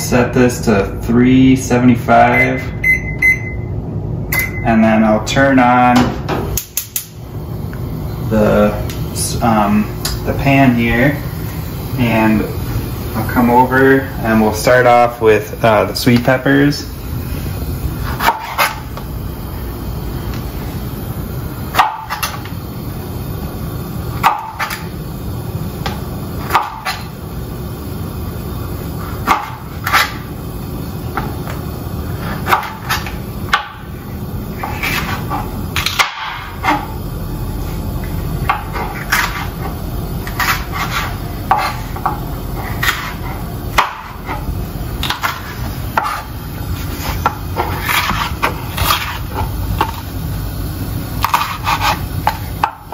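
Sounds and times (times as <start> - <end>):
low background hum: 0.0 - 52.9.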